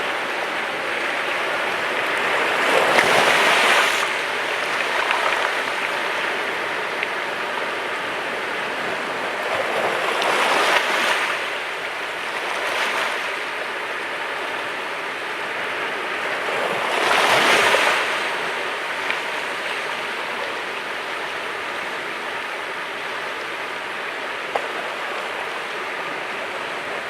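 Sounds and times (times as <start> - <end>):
steady wash of surf: 0.0 - 27.0
waves crashing on rocky shore: 0.0 - 27.0.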